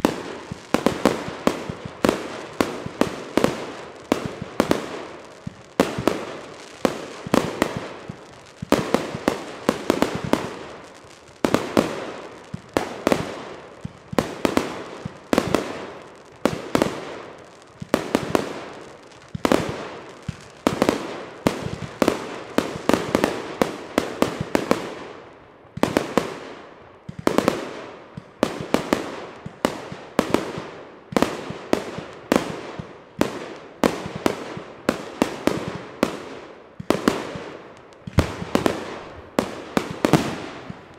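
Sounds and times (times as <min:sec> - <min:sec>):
fireworks bursting with sharp bangs: 0:00.0 - 0:40.9.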